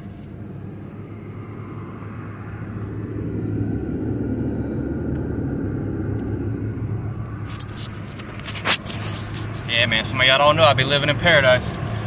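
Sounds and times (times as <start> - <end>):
low steady rumbling: 0.0 - 12.0.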